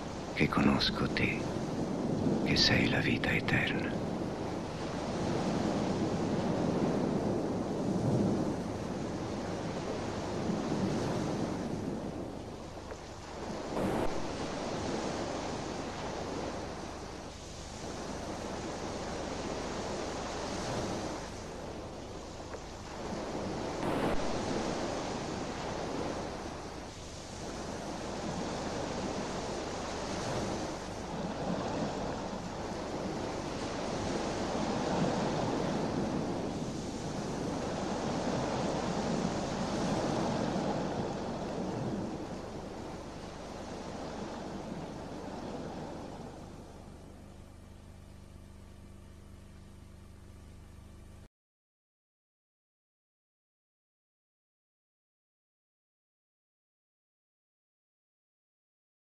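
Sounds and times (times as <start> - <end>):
waves breaking on shore: 0.0 - 48.9.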